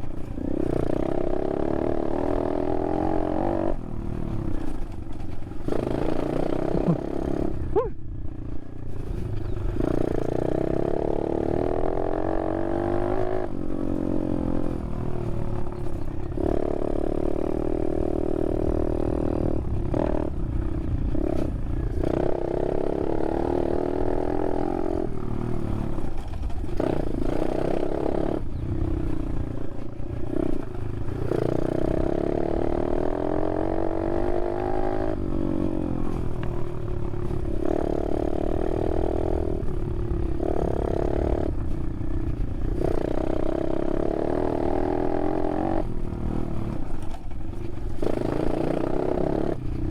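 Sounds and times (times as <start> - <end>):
dirt bike engine revving: 0.0 - 8.0, 8.8 - 49.9.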